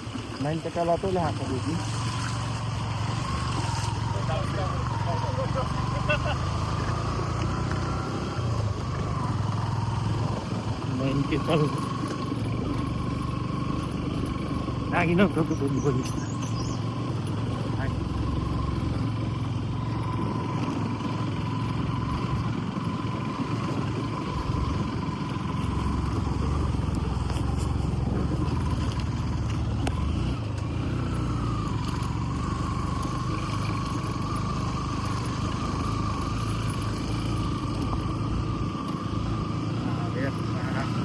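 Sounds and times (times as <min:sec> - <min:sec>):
road noise: 0:00.0 - 0:41.0
vehicle engine rumble: 0:00.0 - 0:41.0.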